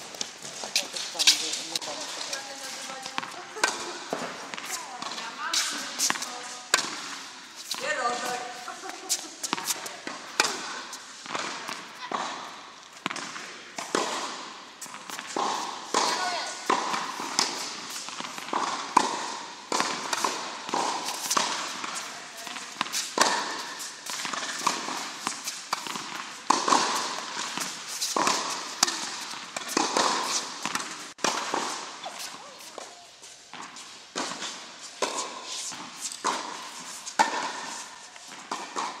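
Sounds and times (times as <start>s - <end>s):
footsteps on court: 0.0s - 39.0s
tennis balls struck and bouncing: 0.0s - 39.0s.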